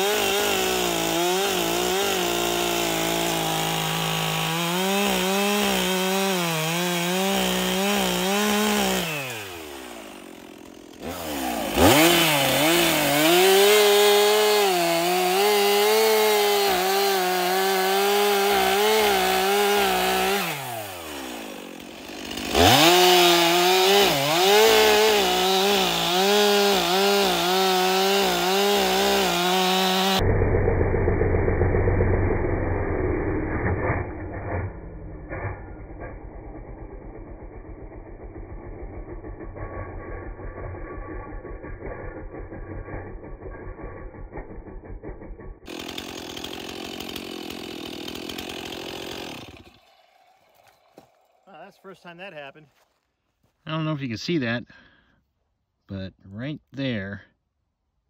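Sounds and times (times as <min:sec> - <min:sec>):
chainsaw cutting log: 0:00.0 - 0:53.1.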